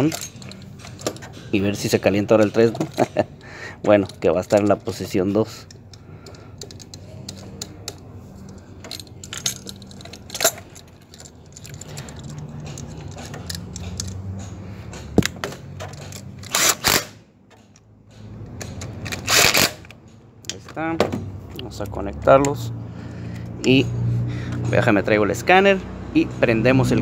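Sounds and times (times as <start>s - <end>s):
metallic clicks and clinks: 0.0s - 25.6s.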